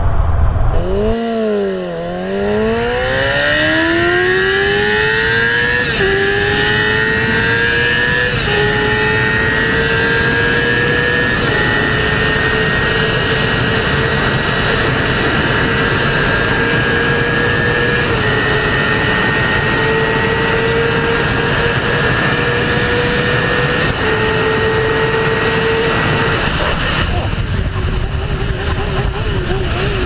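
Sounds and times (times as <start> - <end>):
motorcycle engine whine: 0.0 - 30.0
wind rush: 0.0 - 30.0.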